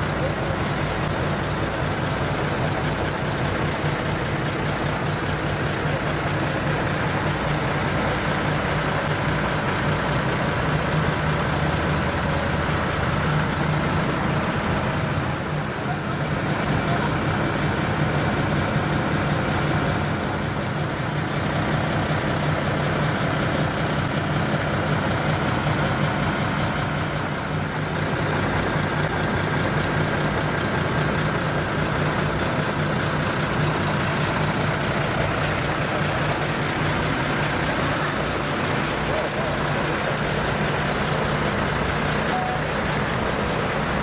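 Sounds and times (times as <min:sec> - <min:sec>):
truck diesel engine idling: 0:00.0 - 0:44.0.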